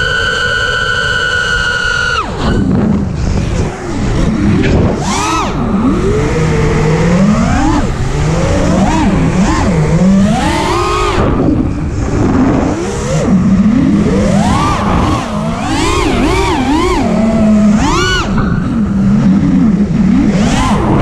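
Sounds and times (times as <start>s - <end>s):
quadcopter motors whining: 0.0s - 21.0s
wind noise on microphone: 0.0s - 21.0s.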